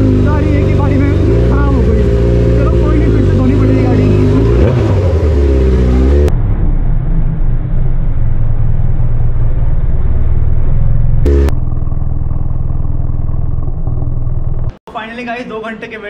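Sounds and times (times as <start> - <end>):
motorcycle engine running: 0.0 - 6.6, 7.9 - 14.8.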